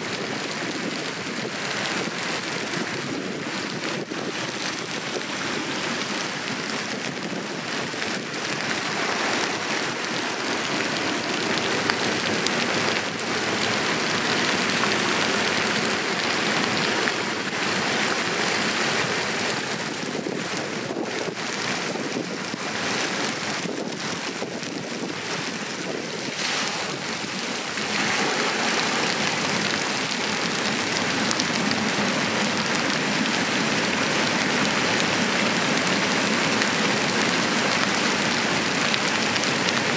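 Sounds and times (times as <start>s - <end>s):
heavy rain: 0.0s - 39.9s
wind: 0.0s - 39.9s.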